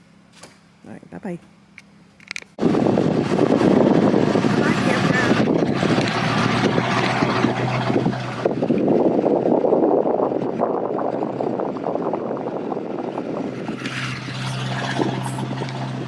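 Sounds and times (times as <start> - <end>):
steady low hum: 0.0 - 16.0
wind buffeting microphone: 2.6 - 16.0.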